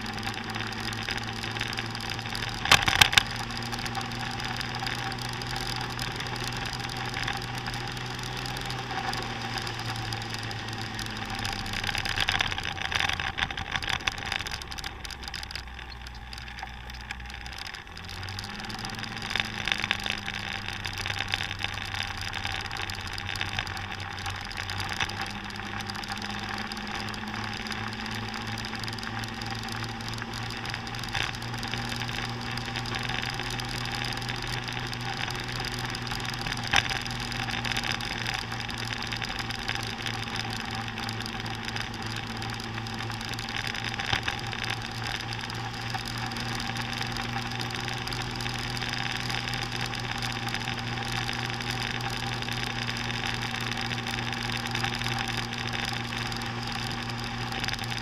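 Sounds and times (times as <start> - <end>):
motor scooter engine running: 0.0 - 58.0
wind and road noise: 0.0 - 58.0.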